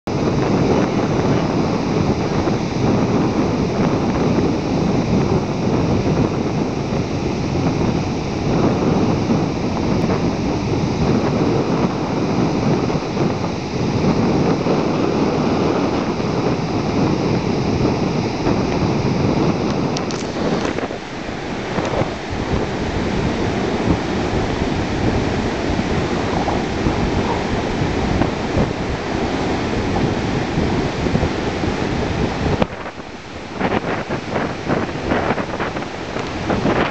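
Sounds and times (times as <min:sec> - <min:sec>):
ocean surf breaking on shore: 0:00.1 - 0:36.9.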